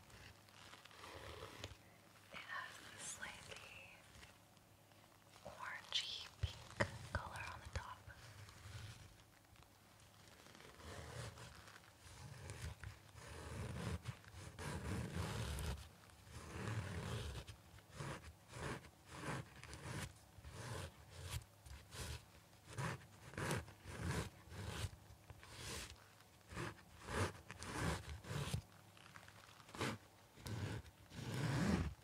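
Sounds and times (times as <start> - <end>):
mask scratching and crinkling: 0.0 - 32.0.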